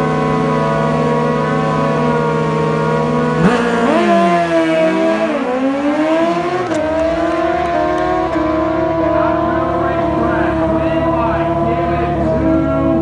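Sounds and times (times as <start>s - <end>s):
motorcycles accelerating hard: 0.0s - 13.0s.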